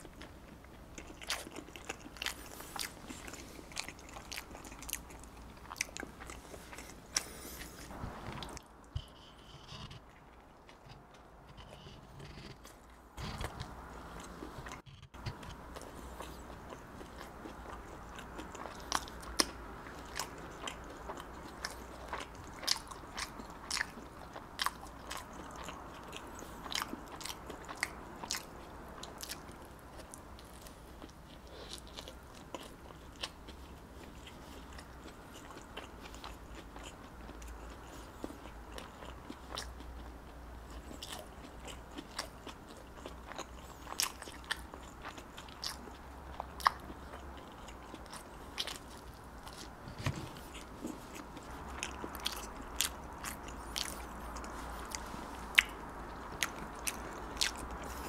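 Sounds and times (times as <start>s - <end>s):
biting and chewing bread: 0.0s - 58.0s.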